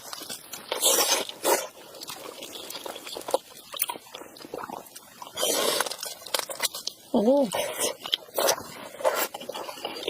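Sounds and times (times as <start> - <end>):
wet chewing and mouth smacking: 0.0 - 10.0.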